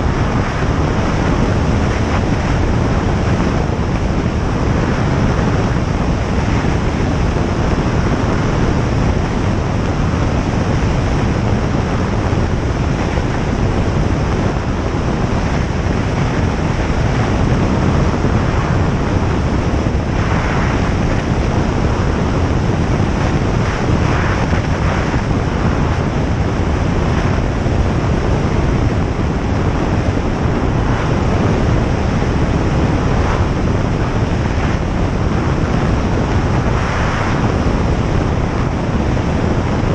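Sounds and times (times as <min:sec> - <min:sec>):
light airplane engine droning: 0:00.0 - 0:39.9.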